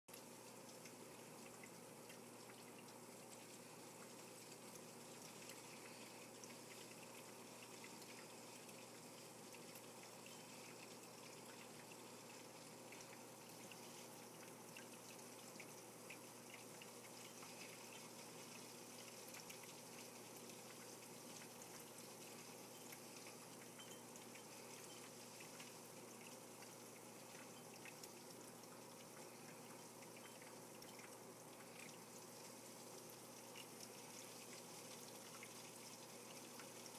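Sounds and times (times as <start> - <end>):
aquarium filter humming: 0.1 - 36.9
soft ticks: 0.1 - 36.9
water trickling: 0.1 - 36.9.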